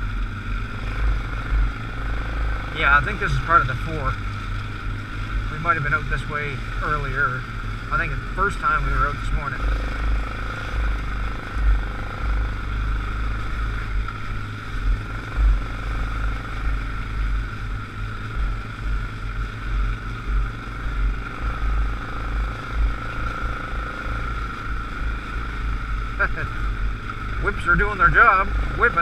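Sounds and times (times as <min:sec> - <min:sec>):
atv engine running: 0:00.0 - 0:29.0
low thumps and rumble: 0:00.0 - 0:29.0.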